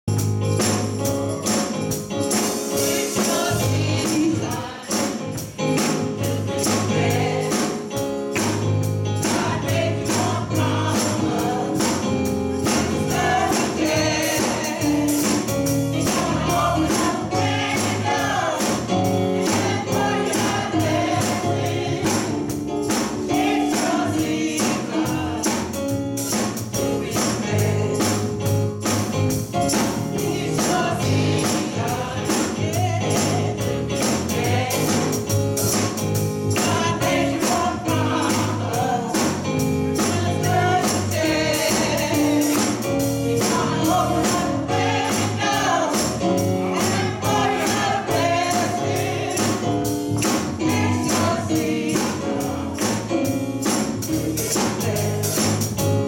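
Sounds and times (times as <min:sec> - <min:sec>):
drums beat: 0:00.1 - 0:56.0
electronic keyboard: 0:00.1 - 0:56.0
gospel choir singing: 0:00.5 - 0:56.0.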